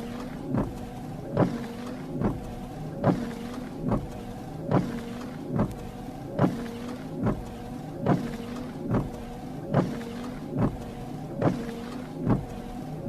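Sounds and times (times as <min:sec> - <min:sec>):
wiper blades thumping: 0:00.0 - 0:13.0
wiper motor humming: 0:00.0 - 0:13.0.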